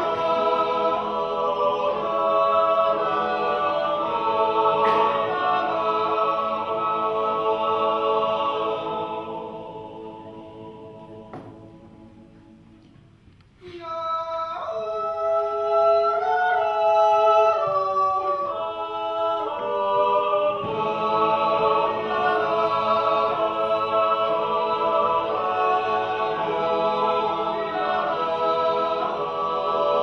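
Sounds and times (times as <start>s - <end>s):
men's choir yodeling: 0.0s - 11.7s, 13.6s - 30.0s.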